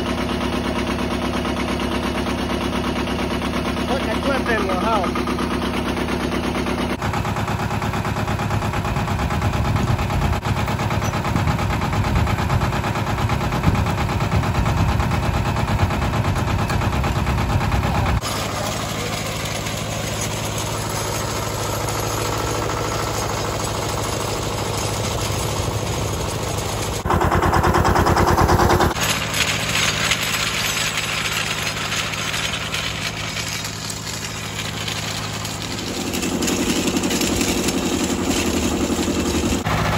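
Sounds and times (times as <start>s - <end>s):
chain harrow scraping gravel: 0.0s - 39.9s
diesel tractor engine clattering: 0.0s - 39.9s.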